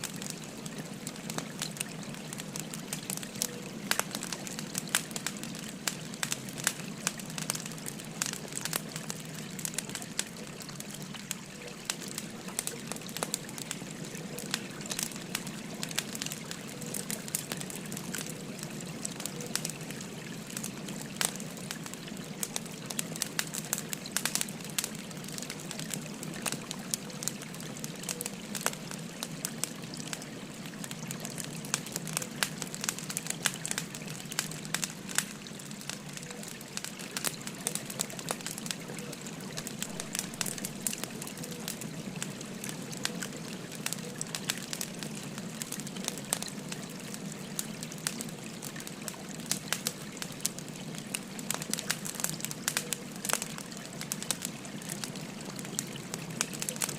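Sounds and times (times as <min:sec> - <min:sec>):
river babbling: 0:00.0 - 0:56.9
wood fire crackling and popping: 0:00.0 - 0:56.9.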